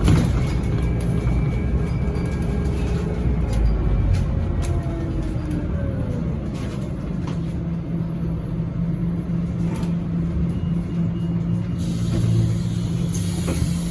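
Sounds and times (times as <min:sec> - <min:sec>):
bus engine running: 0:00.0 - 0:13.9
road rumble: 0:00.0 - 0:13.9.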